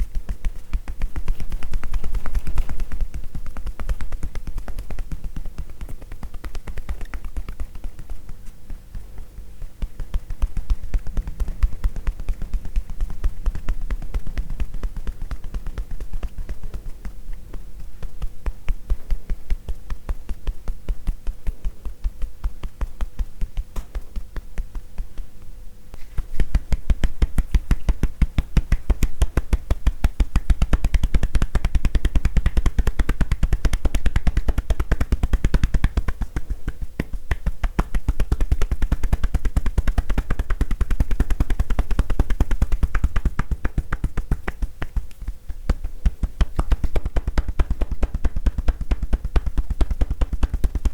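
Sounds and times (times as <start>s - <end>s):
hands tapping on body: 0.0s - 50.9s.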